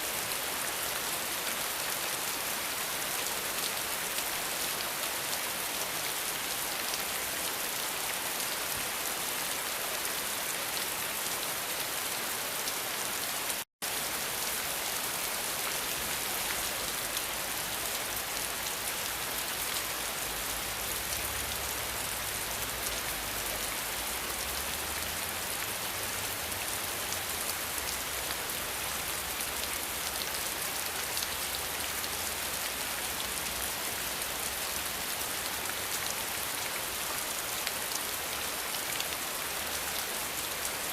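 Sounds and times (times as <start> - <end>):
dense rain pattering: 0.0 - 40.9.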